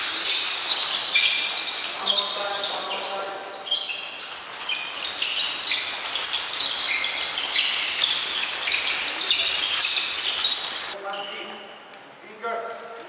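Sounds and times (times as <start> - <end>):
shoes squeaking on wooden floor: 0.0 - 13.0.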